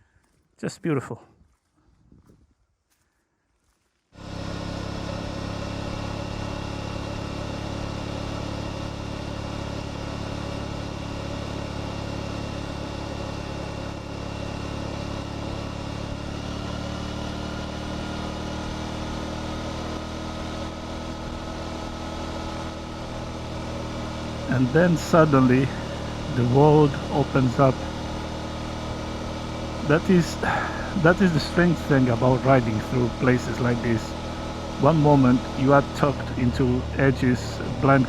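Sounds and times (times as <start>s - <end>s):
motorcycle engine running: 3.6s - 38.0s.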